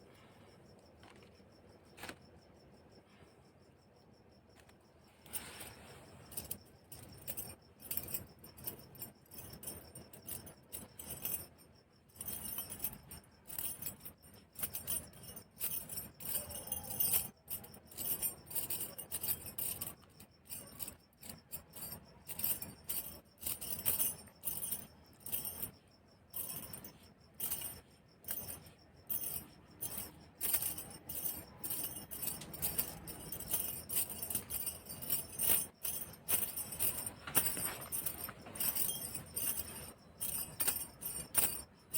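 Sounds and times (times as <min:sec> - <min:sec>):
metal bangles clinking: 0:05.1 - 0:41.9.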